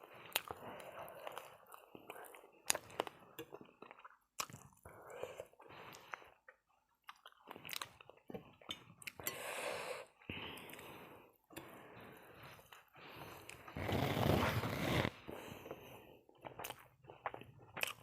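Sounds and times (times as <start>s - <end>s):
person chewing food: 0.0s - 9.2s, 10.2s - 18.0s.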